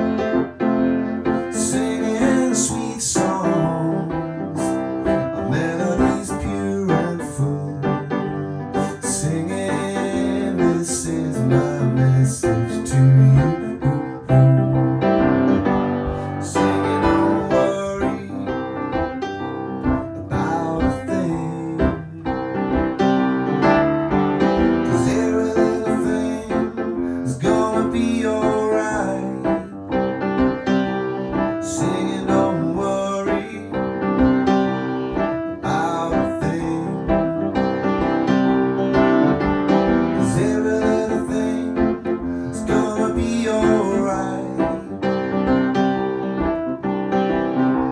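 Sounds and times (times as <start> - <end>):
piano keyboard playing pop music: 0.0 - 47.9.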